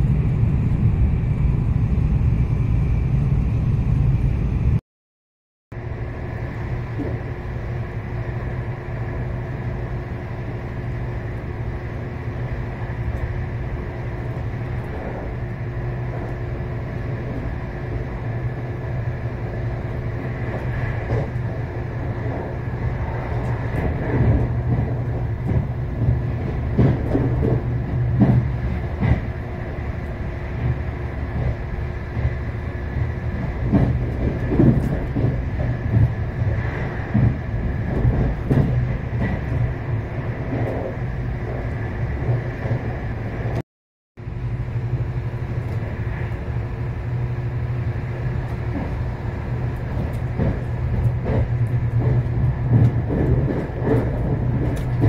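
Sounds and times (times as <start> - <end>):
constant hum: 0.0 - 4.8, 5.8 - 43.6, 44.2 - 55.0
train running gear rumble: 0.0 - 4.8, 5.7 - 43.6, 44.2 - 55.0
wheels clattering over rail joints: 6.9 - 43.6, 45.2 - 55.0.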